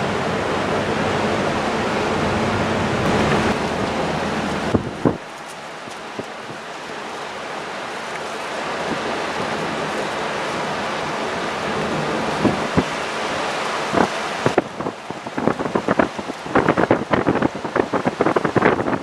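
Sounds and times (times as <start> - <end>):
wind and sea rushing: 0.0 - 19.0.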